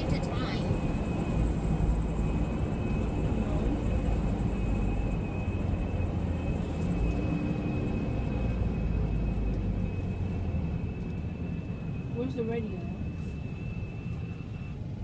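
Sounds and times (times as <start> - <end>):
faint high whine: 0.0 - 15.0
truck engine running: 0.0 - 15.0.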